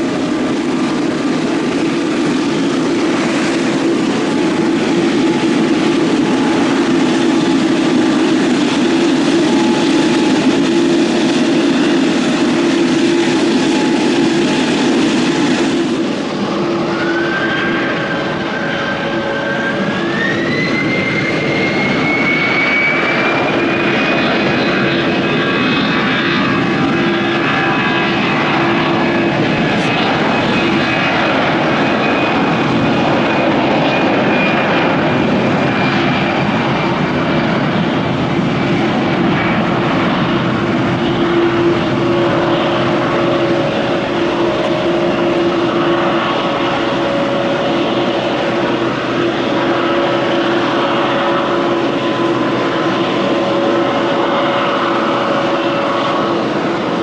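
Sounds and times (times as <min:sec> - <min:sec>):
high engine whine: 0:00.0 - 0:57.0
jet airliner taking off: 0:00.0 - 0:57.0.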